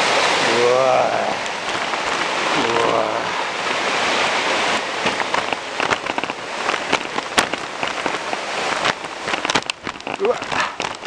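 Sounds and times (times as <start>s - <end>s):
steady hiss: 0.0s - 11.0s
gear rustling against camera: 1.2s - 11.0s
footsteps crunching on gravel: 1.4s - 11.0s.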